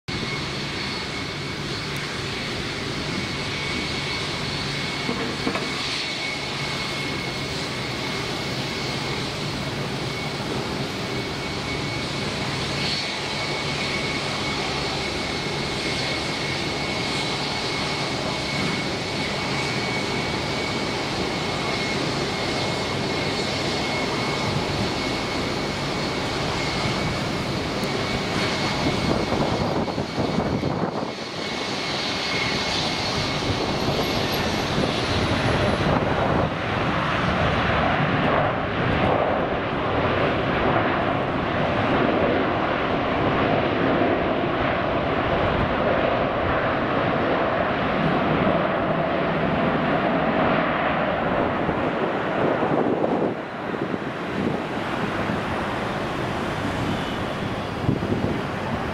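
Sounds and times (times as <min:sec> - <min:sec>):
jet engine noise with fan whine: 0:00.0 - 0:58.9.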